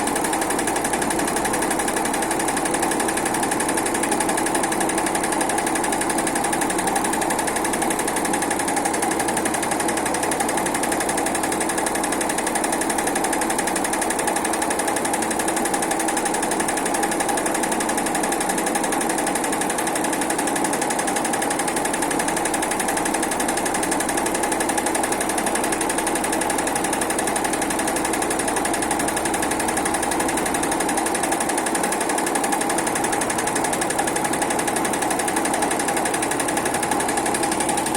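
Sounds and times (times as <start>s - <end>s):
sewing machine stitching: 0.0s - 37.9s.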